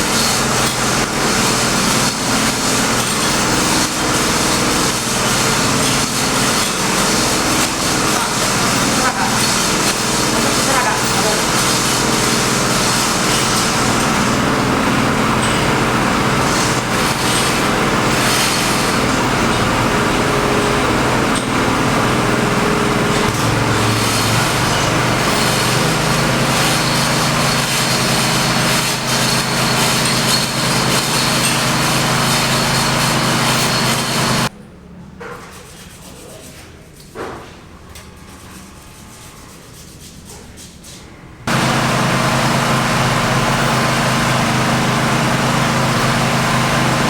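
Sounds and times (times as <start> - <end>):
machine motor running: 0.0 - 34.5, 41.4 - 47.0.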